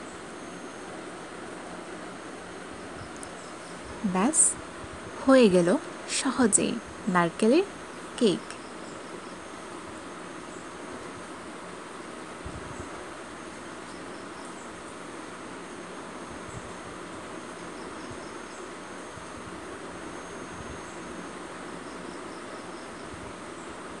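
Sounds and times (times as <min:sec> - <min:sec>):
insects chirping: 0:00.0 - 0:24.0
steady background hiss: 0:00.0 - 0:24.0.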